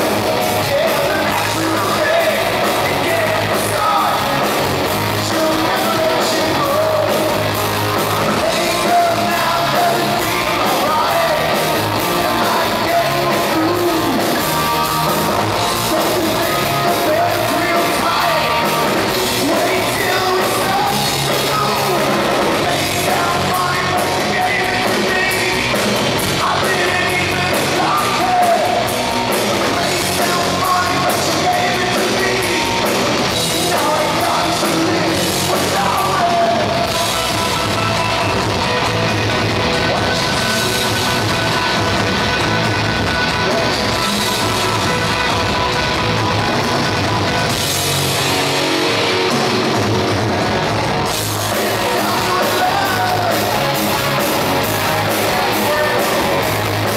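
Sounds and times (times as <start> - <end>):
bass guitar: 0.0 - 56.9
drum kit: 0.0 - 56.9
electric guitar: 0.0 - 56.9.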